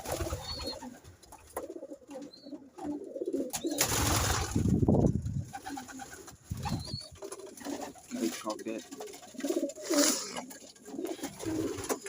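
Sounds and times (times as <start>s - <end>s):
pigeons cooing: 0.0s - 4.3s, 5.5s - 12.0s.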